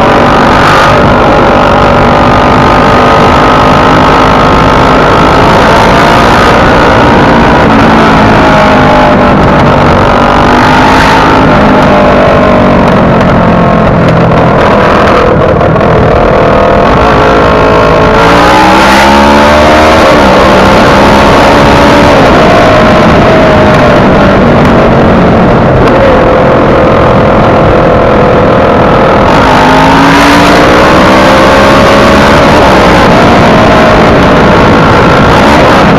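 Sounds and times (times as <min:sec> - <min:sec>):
motorcycle engine accelerating: 0:00.0 - 0:35.9
wind and road noise: 0:00.0 - 0:35.9.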